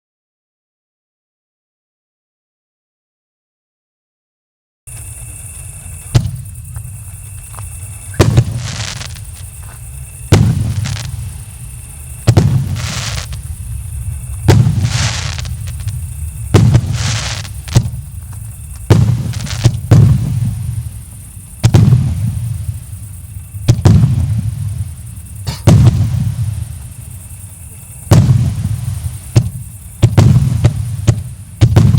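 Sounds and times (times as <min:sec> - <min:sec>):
fireworks bangs: 0:04.9 - 0:27.4, 0:28.0 - 0:31.9
firework hiss: 0:04.9 - 0:31.9.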